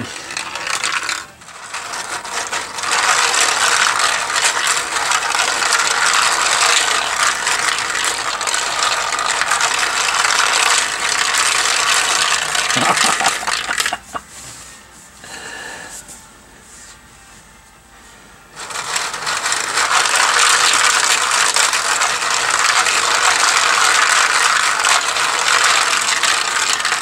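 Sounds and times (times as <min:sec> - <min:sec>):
balls rattling on plastic tracks: 0:00.0 - 0:14.1, 0:18.6 - 0:27.0.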